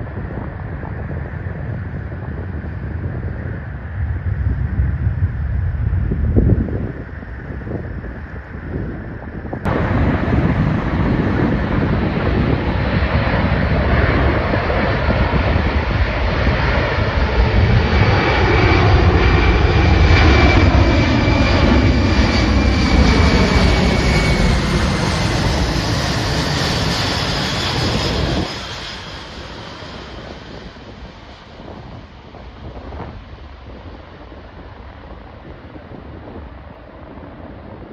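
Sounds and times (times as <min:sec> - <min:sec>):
airplane engines passing by: 0:00.0 - 0:37.9
wind noise: 0:00.0 - 0:37.9.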